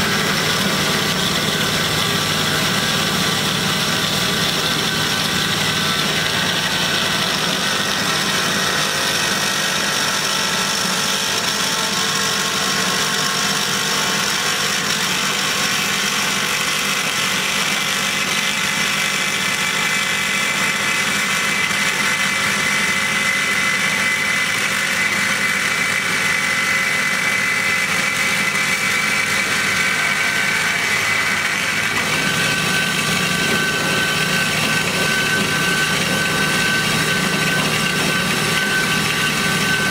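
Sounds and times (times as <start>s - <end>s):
band saw whining: 0.0s - 39.9s.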